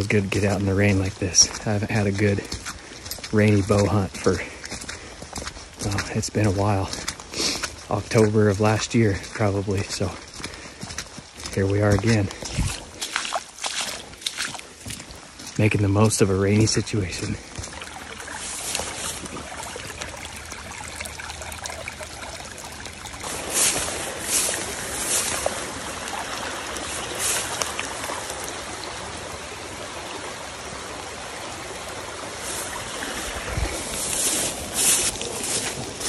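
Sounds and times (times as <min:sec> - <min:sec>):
stream trickling over stones: 0:00.0 - 0:36.0.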